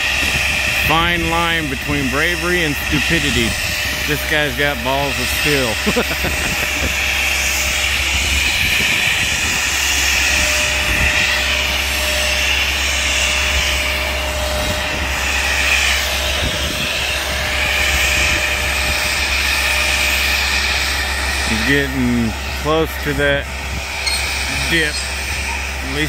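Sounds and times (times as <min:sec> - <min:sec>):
high whine: 0:00.0 - 0:26.0
tree-trimming machine engine: 0:00.0 - 0:26.0.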